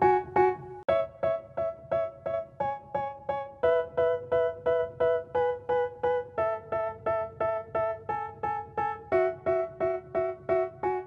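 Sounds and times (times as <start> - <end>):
keyboard striking repeated chords: 0.0 - 11.0.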